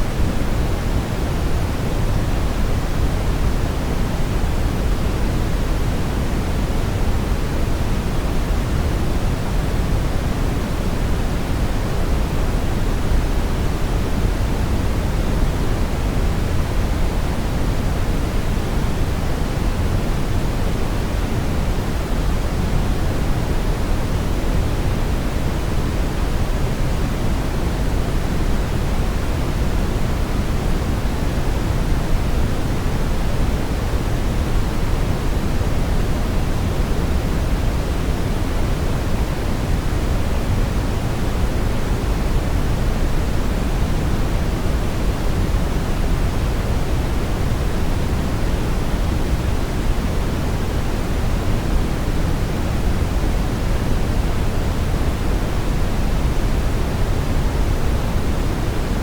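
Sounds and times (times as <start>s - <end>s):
steady brown noise: 0.0s - 59.0s.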